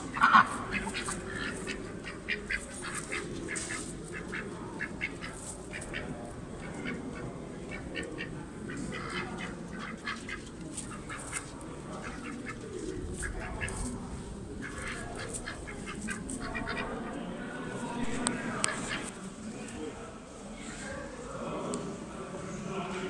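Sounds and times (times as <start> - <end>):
ducks quacking: 0.0 - 19.2.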